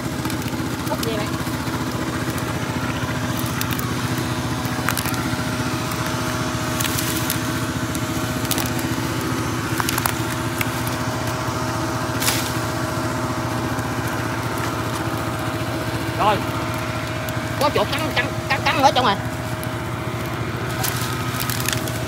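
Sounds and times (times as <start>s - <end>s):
dry branches cracking: 0.0s - 22.0s
small engine running: 0.0s - 22.0s.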